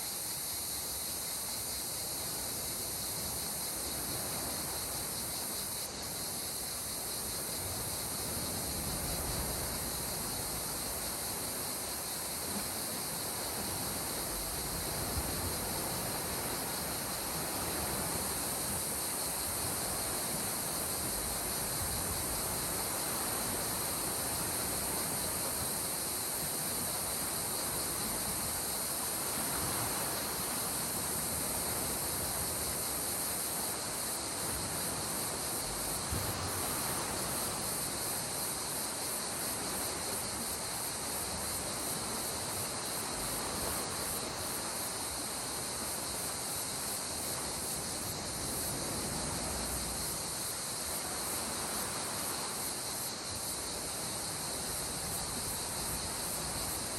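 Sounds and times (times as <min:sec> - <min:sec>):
insects chorus: 0:00.0 - 0:56.9
sea waves washing on shore: 0:01.1 - 0:56.9.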